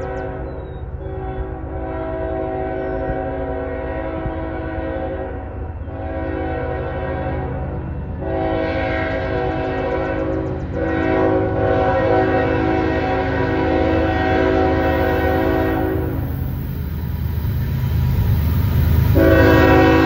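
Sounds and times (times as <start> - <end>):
train air horn blasts: 0.0 - 16.5, 19.0 - 20.0
train rumbling: 0.0 - 20.0.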